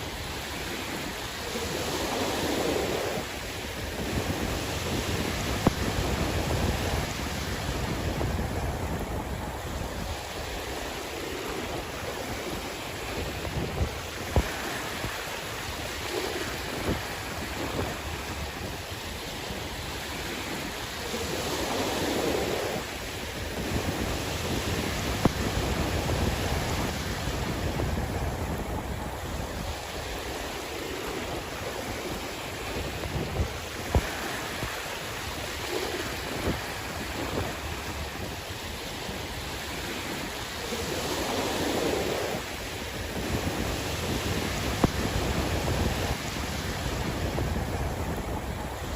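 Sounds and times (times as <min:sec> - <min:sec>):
sea waves washing ashore: 0:00.0 - 0:48.9
wind rumbling on microphone: 0:00.0 - 0:48.9.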